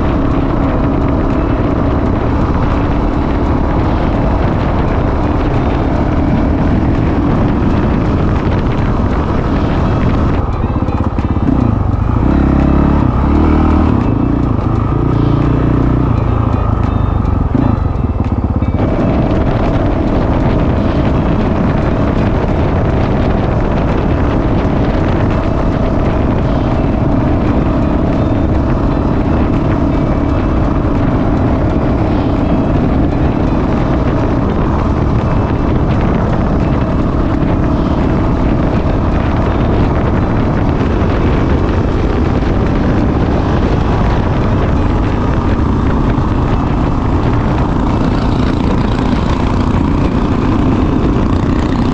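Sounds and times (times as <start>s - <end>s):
motorcycle engine running: 0.0s - 51.9s
wind rushing over microphone: 0.0s - 51.9s.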